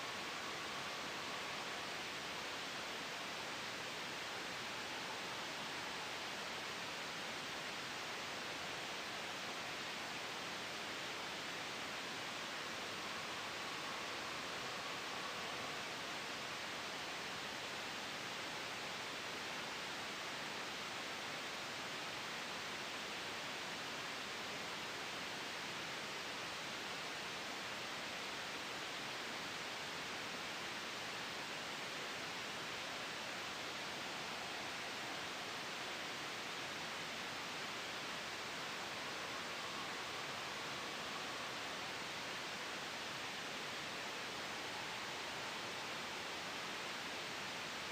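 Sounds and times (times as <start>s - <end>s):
white noise hiss: 0.0s - 47.9s.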